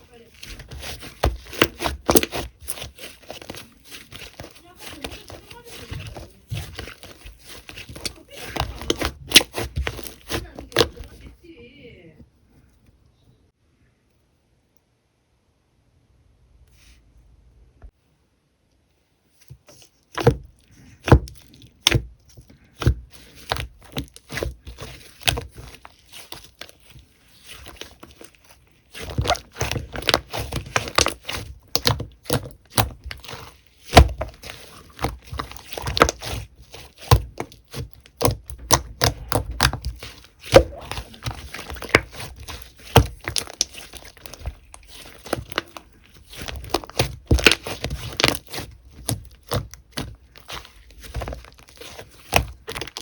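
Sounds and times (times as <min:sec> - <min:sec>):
slime squished by hand: 0:00.0 - 0:11.4, 0:19.4 - 0:53.0.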